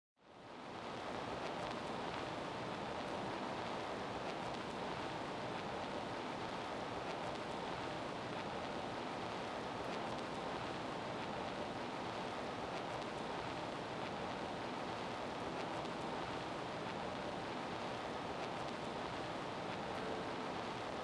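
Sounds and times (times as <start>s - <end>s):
steady hiss: 0.3s - 21.0s
faint ticks: 0.8s - 21.0s.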